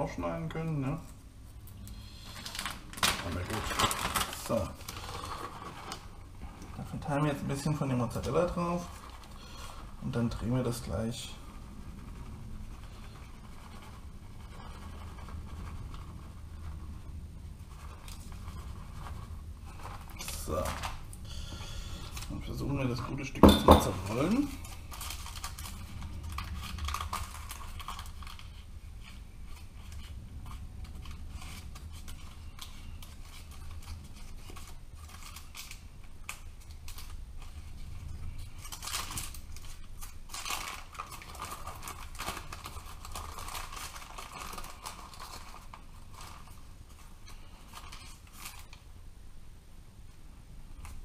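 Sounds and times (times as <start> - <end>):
baking paper crinkling: 0.0 - 49.2, 50.5 - 51.0.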